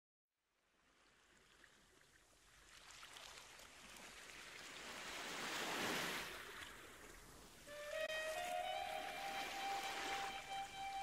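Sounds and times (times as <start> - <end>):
small waves washing onto sand: 0.9 - 11.0.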